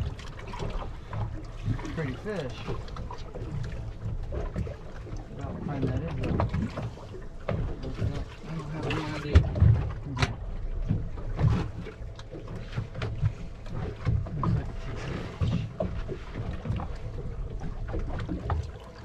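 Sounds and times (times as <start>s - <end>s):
water slapping against boat hull: 0.0s - 19.0s
low thumps and knocks: 2.6s - 19.0s.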